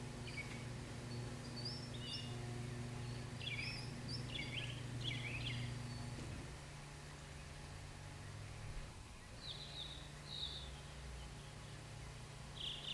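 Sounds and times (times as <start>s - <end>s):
small birds chirping: 0.0s - 7.6s, 9.1s - 12.9s
steady low hum: 0.0s - 12.9s.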